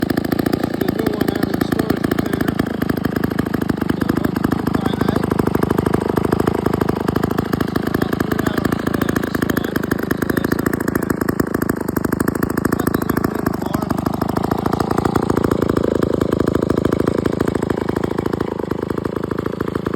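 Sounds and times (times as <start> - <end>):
chainsaw engine running: 0.0 - 19.9.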